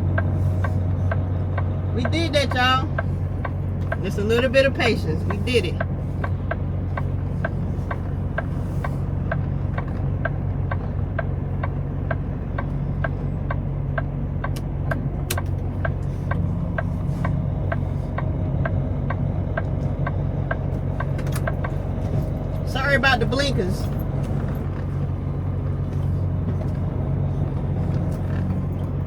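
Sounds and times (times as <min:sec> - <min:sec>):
diesel engine idling: 0:00.0 - 0:29.0
turn signal clicking: 0:00.0 - 0:29.0.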